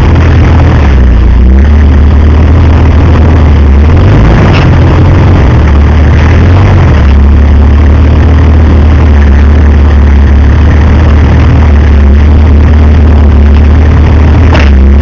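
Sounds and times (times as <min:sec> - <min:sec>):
off-road vehicle engine at low revs: 0:00.0 - 0:15.0.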